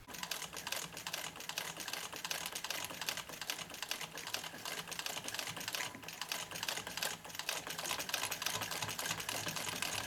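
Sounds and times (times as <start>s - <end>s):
sewing machine clattering: 0.0s - 10.0s.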